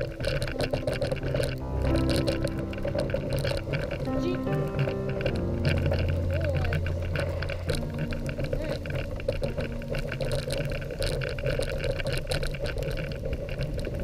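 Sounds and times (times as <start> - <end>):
faint background music: 0.0 - 14.0
sled runners swishing over snow: 0.0 - 14.0.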